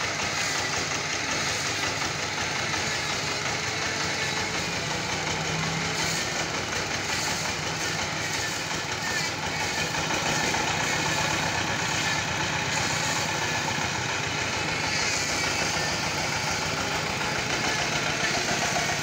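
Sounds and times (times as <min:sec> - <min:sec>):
power tiller engine running: 0:00.0 - 0:19.0.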